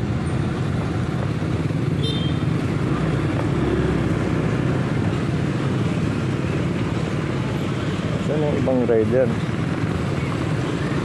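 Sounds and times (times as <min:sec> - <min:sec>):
cars and motorcycles passing: 0:00.0 - 0:11.0.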